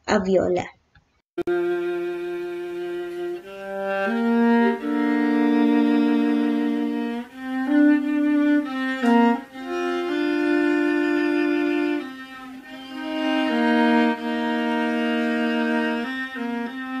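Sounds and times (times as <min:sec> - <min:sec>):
bowed viola melody: 0:01.4 - 0:17.0.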